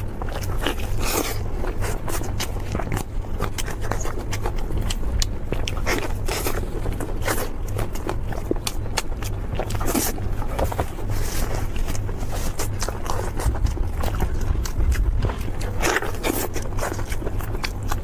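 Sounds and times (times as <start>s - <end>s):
chewing crispy food: 0.0s - 18.0s
low hum: 0.0s - 18.0s.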